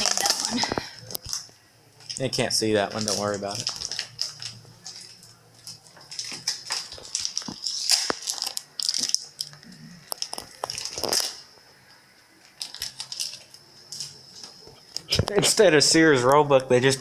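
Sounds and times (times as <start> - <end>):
packing tape peeling and crackling: 0.0 - 11.6, 12.4 - 15.2.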